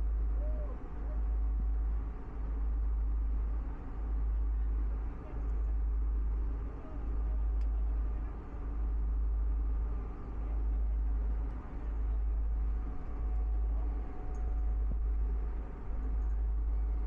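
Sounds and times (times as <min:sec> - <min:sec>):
ferry engine rumble: 0:00.0 - 0:17.0.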